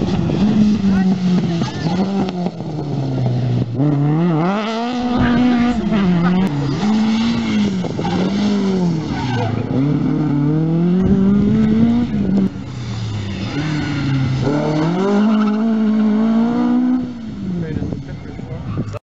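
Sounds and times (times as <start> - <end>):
rally car engine and loud exhaust: 0.0 - 19.0.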